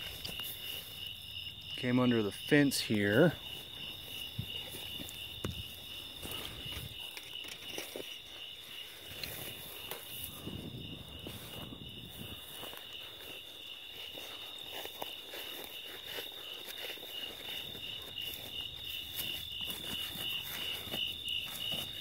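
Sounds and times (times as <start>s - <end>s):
footsteps through dry grass: 0.0s - 22.0s
night insects chorus: 0.0s - 22.0s.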